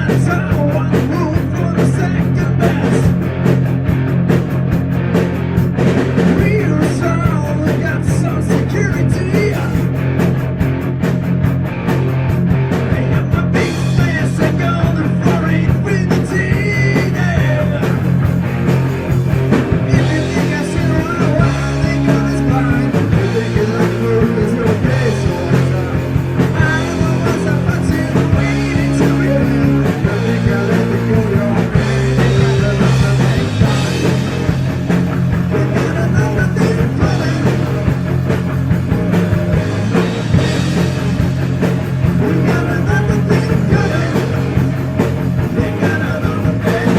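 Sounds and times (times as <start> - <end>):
bass guitar: 0.0 - 46.9
drums: 0.0 - 46.9
electric guitar: 0.0 - 46.9.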